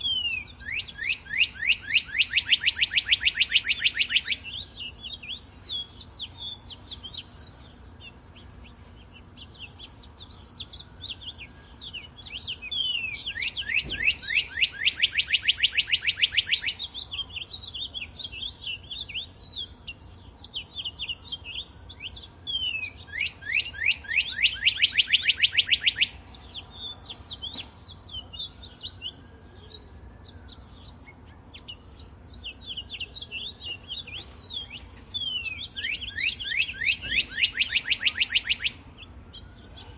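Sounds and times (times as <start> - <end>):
bird trilling: 0.0 - 39.9
songbirds chirping: 0.0 - 39.9.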